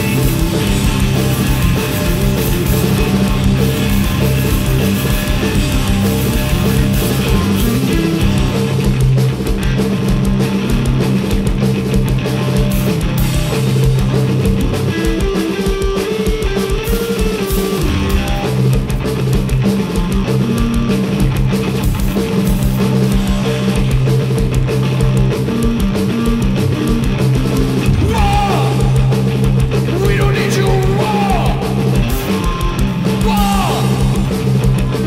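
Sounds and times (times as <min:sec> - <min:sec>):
drum kit playing: 0:00.0 - 0:35.0
electric guitar riffing: 0:00.0 - 0:35.0.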